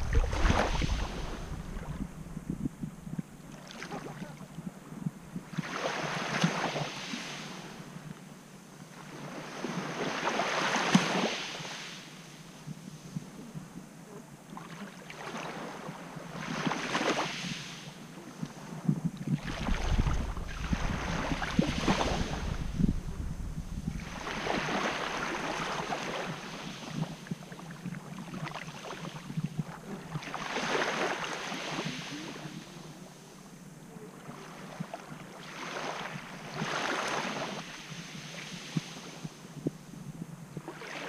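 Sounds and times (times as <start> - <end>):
waves washing over coarse sand: 0.0 - 2.8, 5.4 - 7.8, 8.9 - 13.4, 14.6 - 33.6, 34.2 - 39.5, 40.6 - 41.0
wind rumble on microphone: 0.0 - 8.0, 12.5 - 31.0, 31.6 - 40.9.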